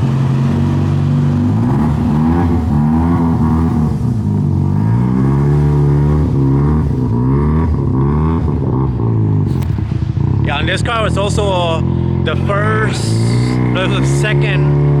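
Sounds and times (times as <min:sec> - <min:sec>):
rotary engine revving: 0:00.0 - 0:15.0.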